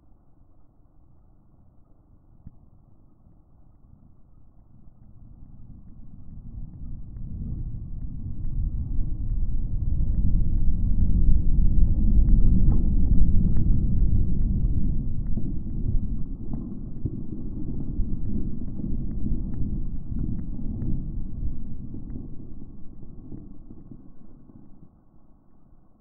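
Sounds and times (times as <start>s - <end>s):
battery pack burning with rumble: 0.0s - 26.0s
sharp crackles of flame: 0.1s - 26.0s.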